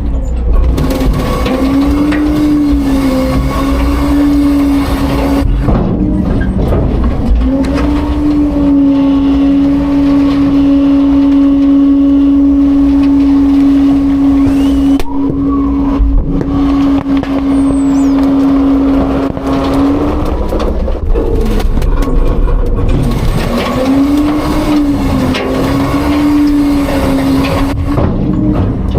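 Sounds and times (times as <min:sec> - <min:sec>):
metal knocks and clanks: 0:00.0 - 0:14.4, 0:15.0 - 0:28.9
garbage truck hydraulics drone: 0:00.0 - 0:28.9.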